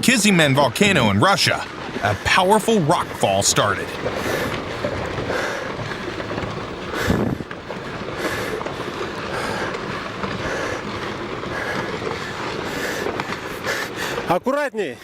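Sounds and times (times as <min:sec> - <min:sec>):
rocks tumbling downhill: 0:00.0 - 0:15.0.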